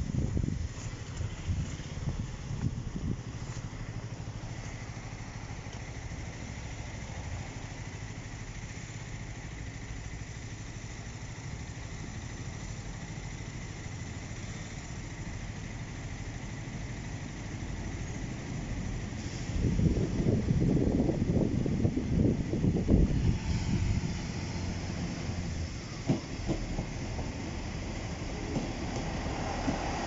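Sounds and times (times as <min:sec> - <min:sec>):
engines idling: 0:00.0 - 0:30.0.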